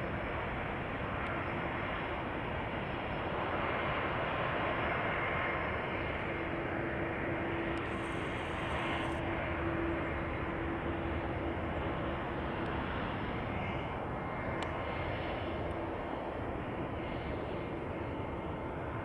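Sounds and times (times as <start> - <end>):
jet engines rumbling hiss: 0.1 - 19.0.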